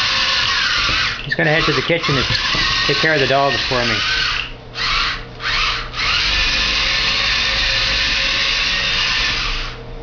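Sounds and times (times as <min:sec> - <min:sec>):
small electric motors whirring: 0:00.0 - 0:09.8.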